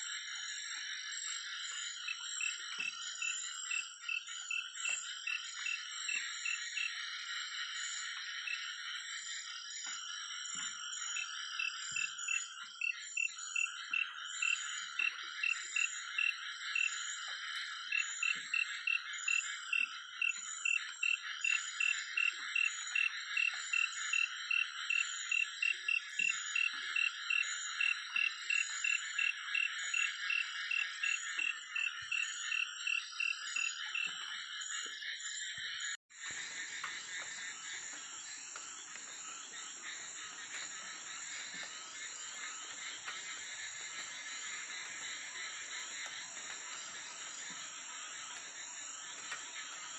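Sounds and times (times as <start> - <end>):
frogs trilling: 0.0 - 49.9.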